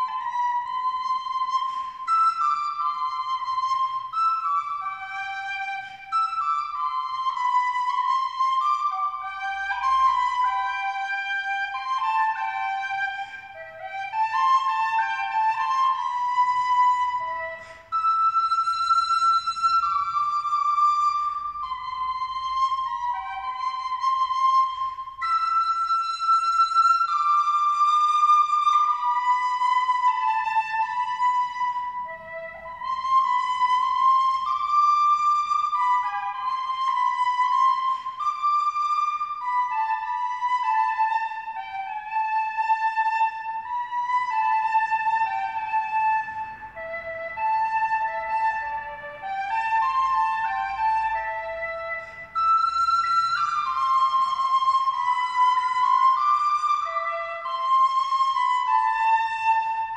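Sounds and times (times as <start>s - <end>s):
slow flute-like melody: 0.0s - 59.9s.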